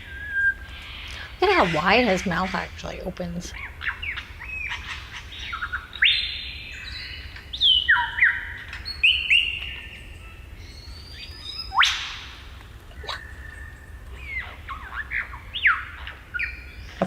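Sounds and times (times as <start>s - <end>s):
lyrebird singing: 0.0s - 17.0s.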